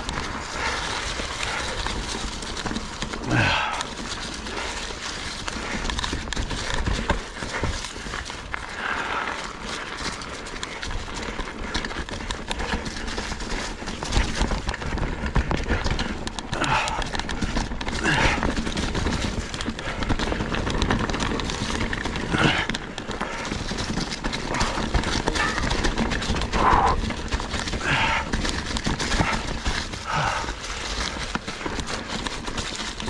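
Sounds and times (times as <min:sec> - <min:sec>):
mountain bike clattering over rocks: 0:00.0 - 0:33.0.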